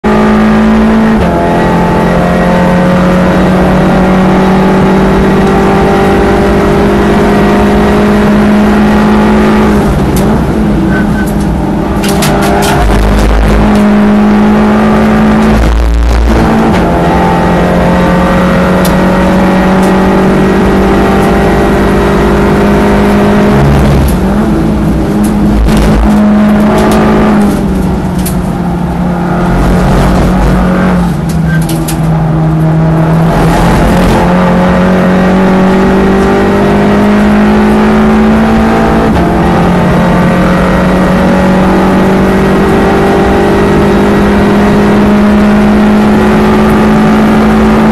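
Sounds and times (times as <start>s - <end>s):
car engine at full throttle: 0.0s - 47.9s.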